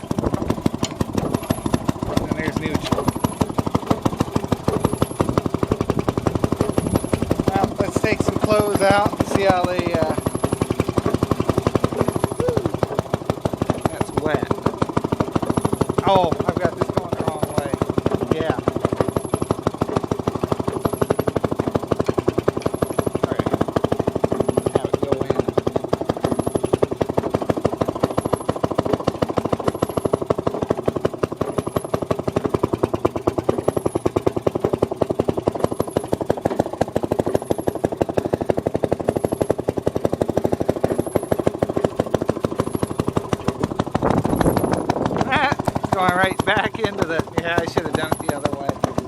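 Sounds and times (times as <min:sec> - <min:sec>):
two-stroke engine running: 0:00.0 - 0:49.0.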